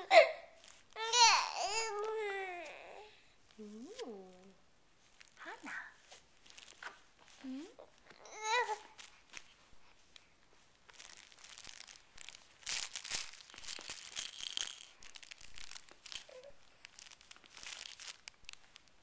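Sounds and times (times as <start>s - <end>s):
cloth book crinkling: 0.5s - 19.0s.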